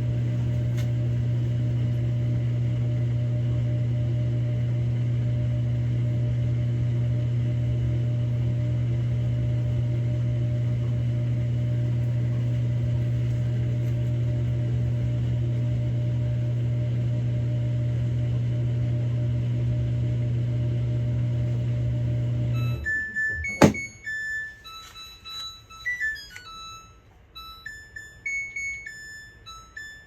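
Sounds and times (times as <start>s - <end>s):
washing machine spinning: 0.0s - 24.4s.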